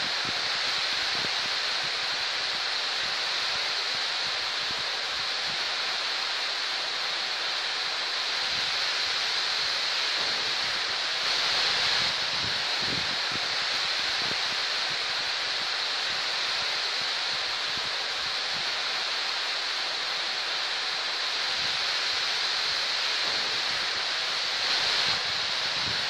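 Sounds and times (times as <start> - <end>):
heavy rain on trees and grass: 0.0 - 26.0.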